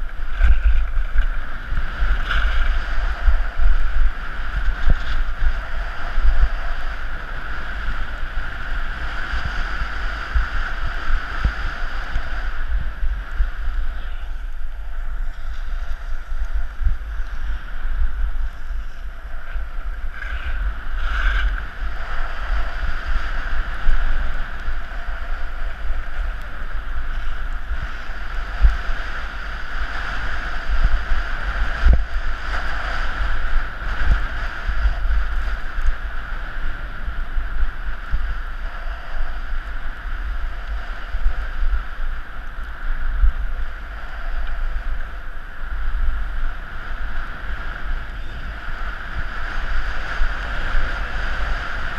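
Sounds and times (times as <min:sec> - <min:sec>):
skis sliding on packed snow: 0:00.0 - 0:42.4
wind rushing over microphone: 0:00.0 - 0:51.9.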